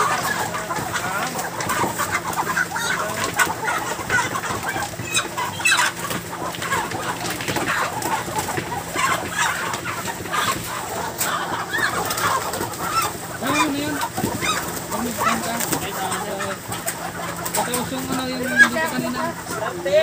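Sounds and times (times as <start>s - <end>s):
chickens clucking and squawking: 0.0s - 20.0s.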